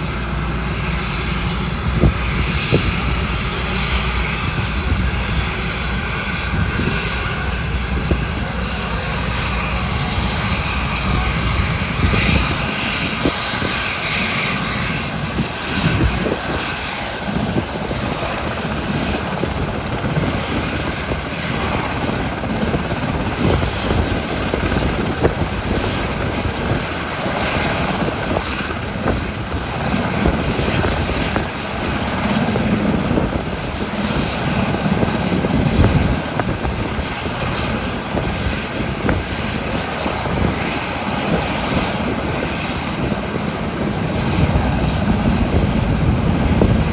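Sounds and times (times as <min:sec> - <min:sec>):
helicopter rotor and turbine noise: 0:00.0 - 0:46.9.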